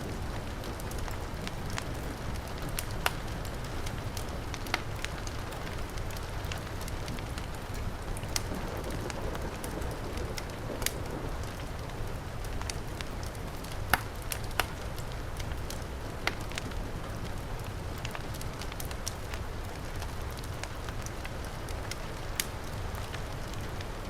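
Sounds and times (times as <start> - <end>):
heavy rain: 0.0 - 24.0
wood fire crackling and popping: 0.1 - 24.0.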